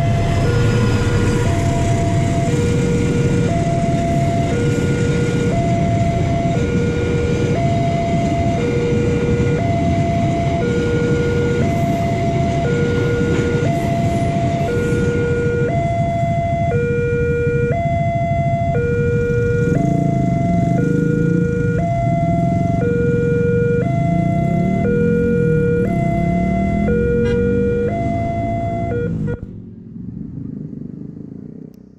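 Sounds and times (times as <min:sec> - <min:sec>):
two-tone warning siren: 0:00.0 - 0:29.6.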